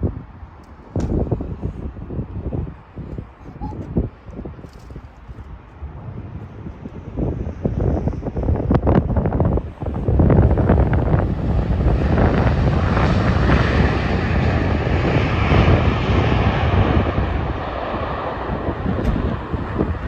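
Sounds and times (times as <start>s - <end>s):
jet airliner engine roar: 0.0s - 20.0s
wind buffeting microphone: 0.0s - 20.0s.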